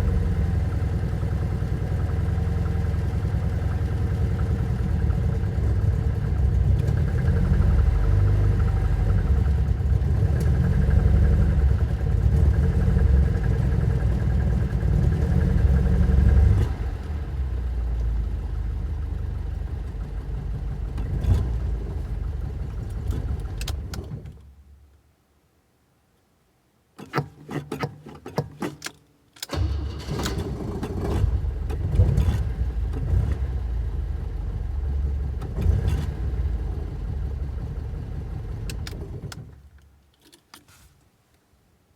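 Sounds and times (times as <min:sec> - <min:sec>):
car engine running: 0:00.0 - 0:24.0, 0:29.5 - 0:39.4.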